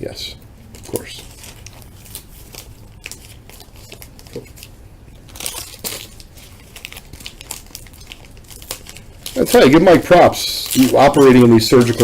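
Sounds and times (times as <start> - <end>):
plastic wrappers crinkling: 0.1 - 12.0.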